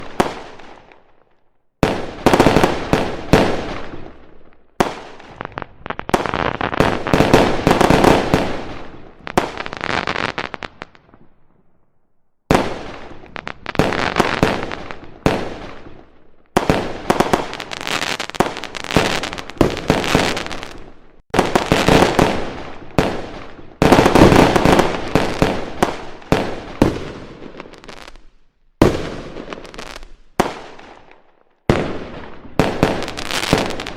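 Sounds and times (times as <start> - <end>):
fireworks bangs and crackles: 0.0 - 11.7, 12.5 - 33.9.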